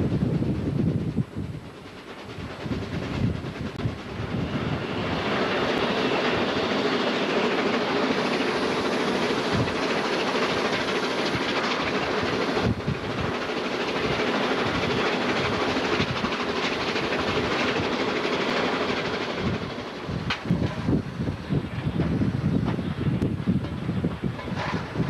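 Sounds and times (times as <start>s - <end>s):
steam locomotive clattering rumble: 0.0s - 25.0s.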